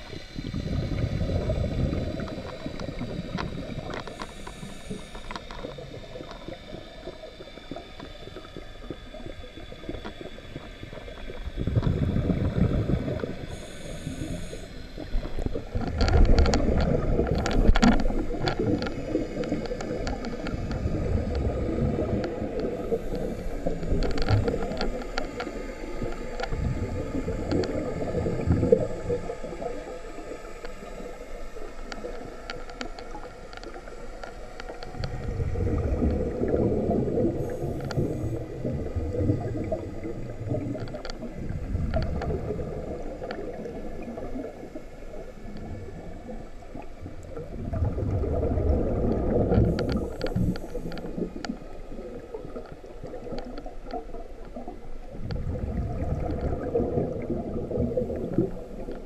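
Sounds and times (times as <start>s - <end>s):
regulator hiss: 0.0s - 47.8s, 48.9s - 53.4s
exhaled bubbles gurgling: 0.0s - 59.0s.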